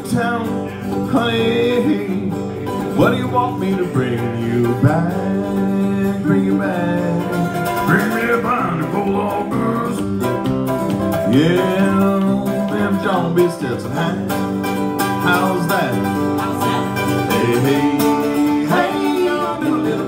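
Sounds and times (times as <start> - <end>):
man singing: 0.0 - 10.4, 11.2 - 20.0
acoustic guitar strumming: 0.0 - 20.0
mandolin picking: 0.0 - 20.0.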